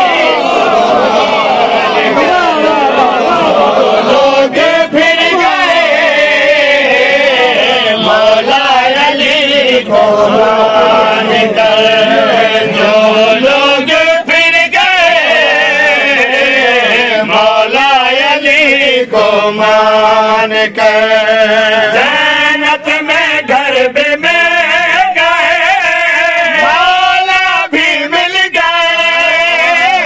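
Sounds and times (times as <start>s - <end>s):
men chanting unaccompanied: 0.0s - 30.0s.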